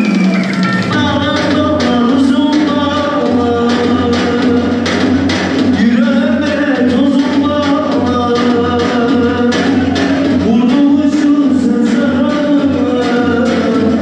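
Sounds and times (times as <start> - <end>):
steady drum beat: 0.0 - 14.0
person singing: 0.1 - 5.0, 5.7 - 14.0.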